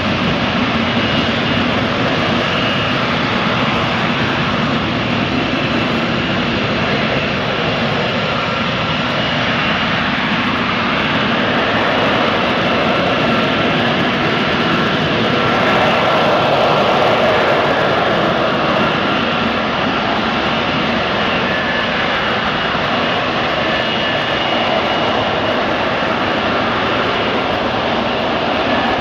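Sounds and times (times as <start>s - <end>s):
jet engine running: 0.0s - 29.0s.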